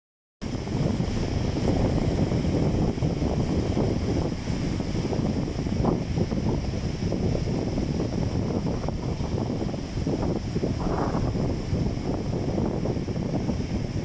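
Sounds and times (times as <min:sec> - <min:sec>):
wind buffeting microphone: 0:00.4 - 0:14.0
sea waves washing: 0:00.5 - 0:14.0.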